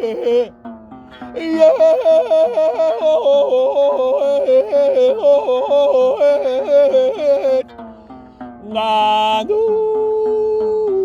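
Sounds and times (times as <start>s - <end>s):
person singing warbling run: 0.0s - 0.5s, 1.3s - 7.7s, 8.6s - 10.9s.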